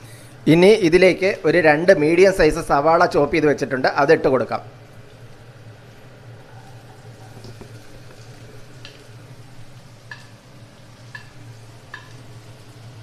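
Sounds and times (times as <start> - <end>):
garlic frying with faint sizzle: 0.0 - 13.0.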